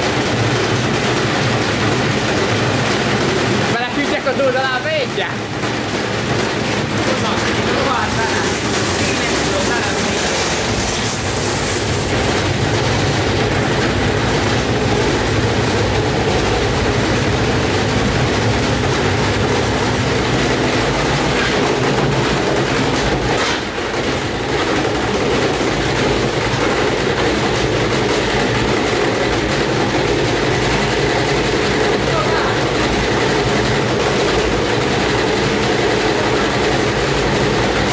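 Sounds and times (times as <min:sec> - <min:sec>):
machine rattling: 0:00.0 - 0:37.9
washing machine spinning: 0:00.0 - 0:37.9.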